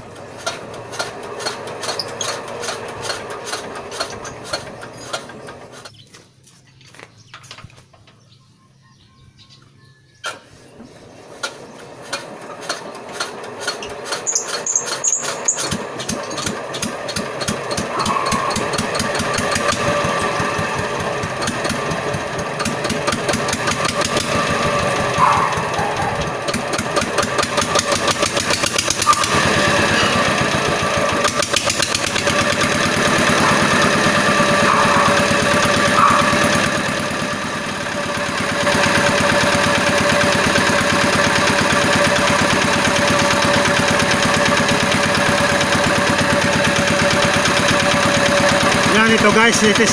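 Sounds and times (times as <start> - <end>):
small generator engine running: 0.0 - 6.5, 8.9 - 49.9.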